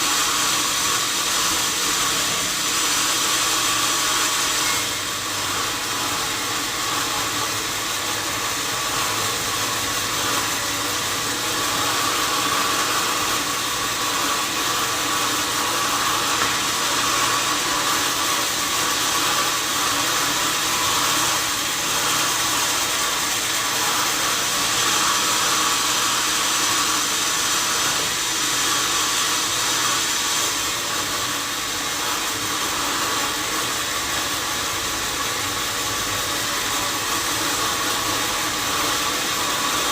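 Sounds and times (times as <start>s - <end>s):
sawmill saw whirring: 0.0s - 39.9s.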